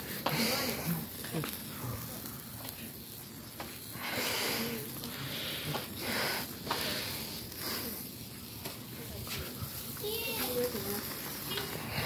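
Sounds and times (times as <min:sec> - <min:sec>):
sparkler fizzing and crackling: 0:00.0 - 0:12.0.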